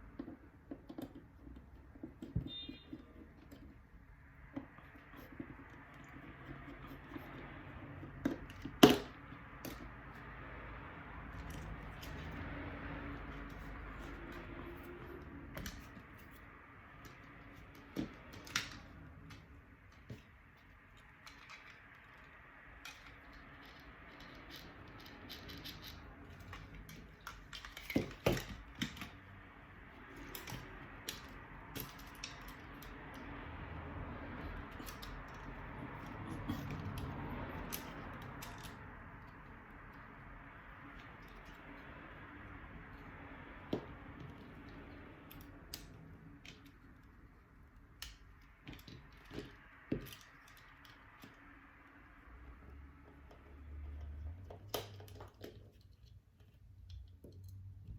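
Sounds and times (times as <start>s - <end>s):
small tools clicking and knocking: 0.0s - 57.9s.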